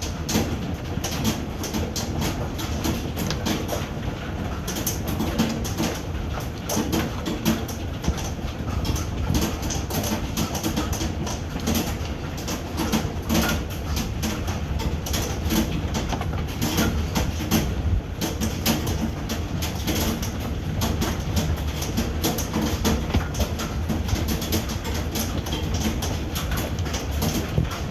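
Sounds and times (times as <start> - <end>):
hailstones clattering: 0.0 - 27.9.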